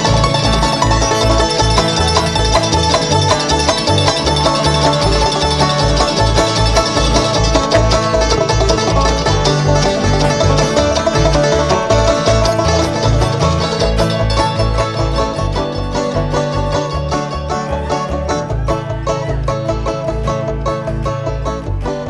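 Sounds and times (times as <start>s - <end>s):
banjo picking: 0.0s - 22.0s
bluegrass string band playing: 0.0s - 22.0s
steady bass line: 0.0s - 22.0s.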